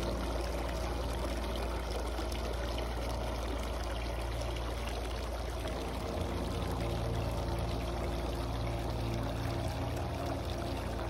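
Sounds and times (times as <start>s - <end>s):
fountain water splashing: 0.0s - 11.0s
low steady hum: 0.0s - 11.0s.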